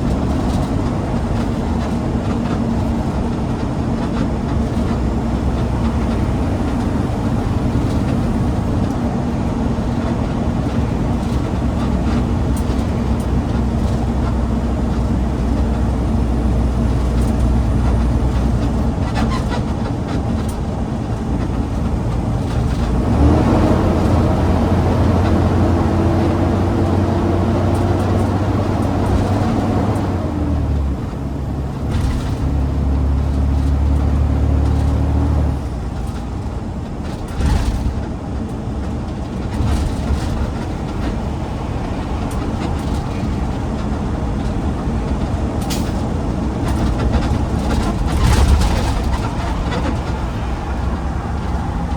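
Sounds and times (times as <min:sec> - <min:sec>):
garbage truck diesel engine: 0:00.0 - 0:51.9.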